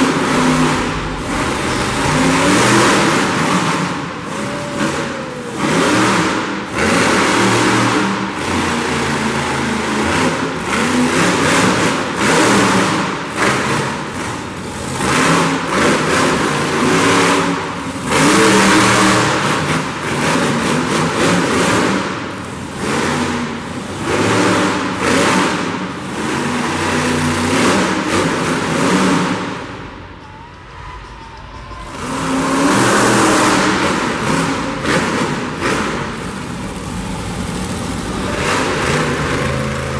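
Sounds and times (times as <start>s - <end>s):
truck engine revving hard: 0.0s - 30.0s, 31.8s - 39.9s.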